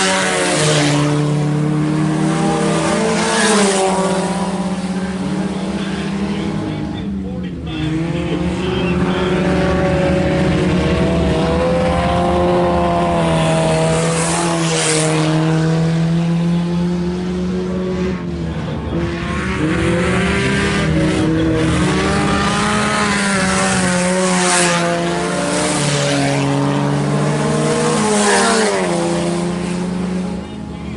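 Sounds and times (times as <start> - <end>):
cars passing close by: 0.0 - 30.9
race car engines: 0.0 - 30.9.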